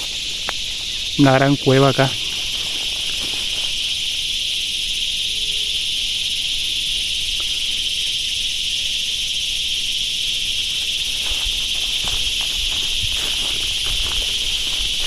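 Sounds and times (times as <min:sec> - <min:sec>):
insects chorus droning: 0:00.0 - 0:15.0.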